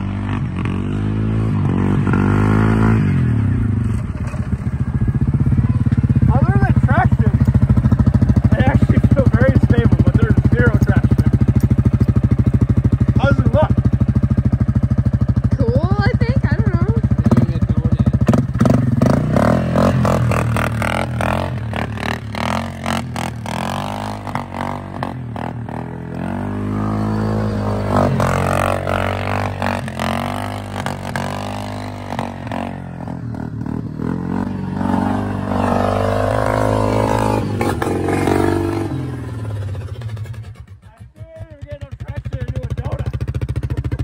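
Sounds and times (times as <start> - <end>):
engine revving: 0.0 - 41.0.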